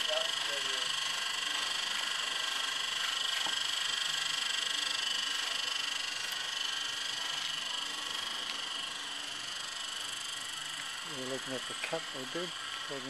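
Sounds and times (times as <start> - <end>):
cicada chorus buzzing: 0.0 - 13.0.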